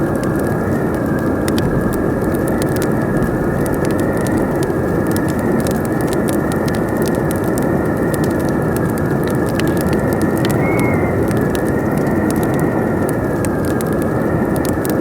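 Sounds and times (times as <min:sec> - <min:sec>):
crackling fire popping: 0:00.0 - 0:15.0
howling wind: 0:00.0 - 0:15.0.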